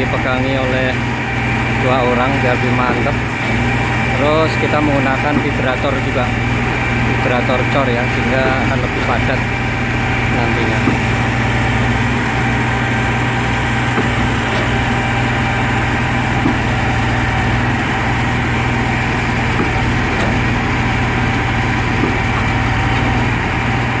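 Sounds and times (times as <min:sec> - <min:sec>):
machinery engine drone: 0:00.0 - 0:24.0.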